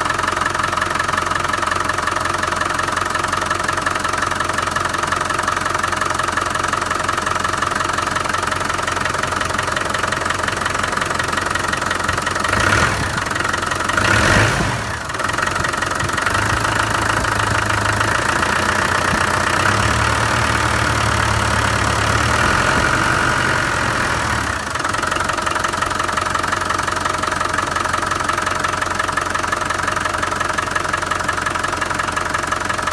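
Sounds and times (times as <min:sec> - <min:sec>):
diesel engine running with knock: 0:02.6 - 0:32.9.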